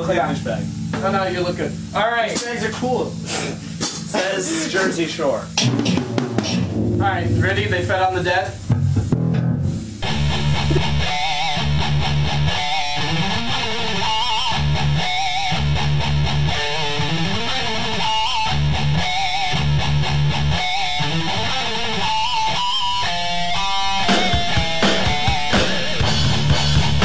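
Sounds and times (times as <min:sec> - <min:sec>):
metal music with distorted guitars: 0:00.0 - 0:27.0.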